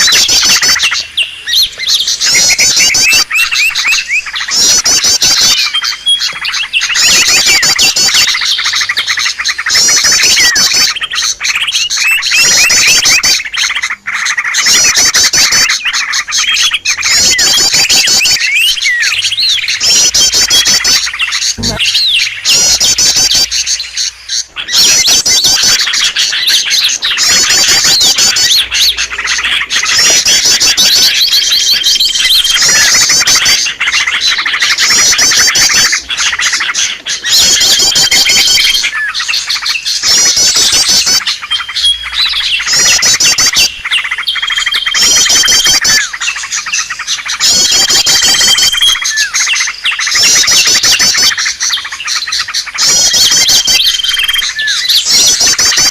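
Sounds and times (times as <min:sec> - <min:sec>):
songbirds chirping trills: 0:00.0 - 0:55.9.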